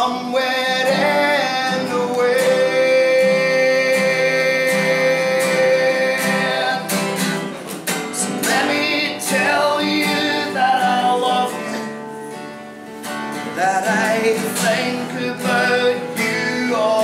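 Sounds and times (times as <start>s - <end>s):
man singing: 0.0s - 12.0s, 13.4s - 17.0s
strummed acoustic guitar: 0.0s - 17.0s.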